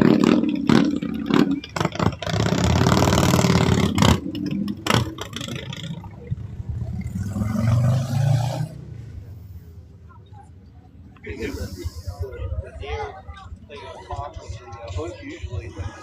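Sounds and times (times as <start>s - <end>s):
vehicle engines revving: 0.0s - 16.0s.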